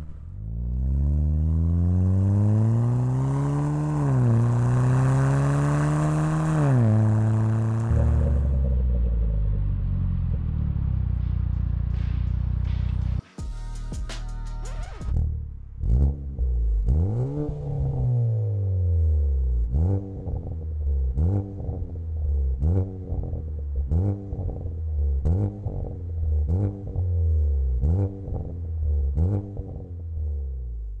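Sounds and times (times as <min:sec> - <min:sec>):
car exhaust revving: 0:00.0 - 0:13.2, 0:14.7 - 0:31.0.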